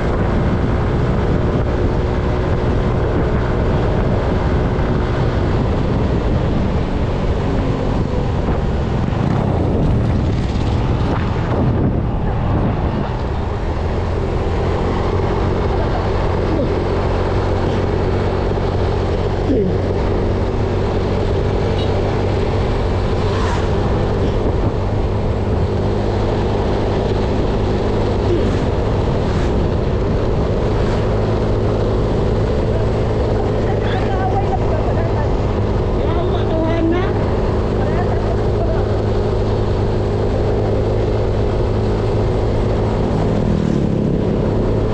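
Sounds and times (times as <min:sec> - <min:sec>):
engine droning: 0:00.0 - 0:44.9
rushing noise: 0:02.1 - 0:44.9.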